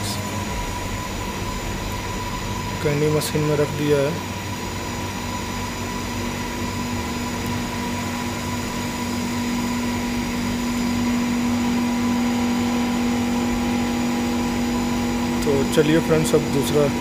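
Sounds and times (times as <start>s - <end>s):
machine electrical hum: 0.0s - 17.0s.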